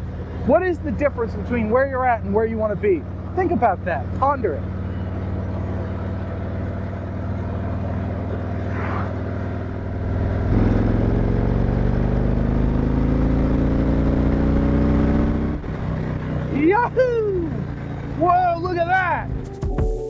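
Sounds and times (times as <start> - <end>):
motorcycle engine accelerating: 0.0 - 19.5.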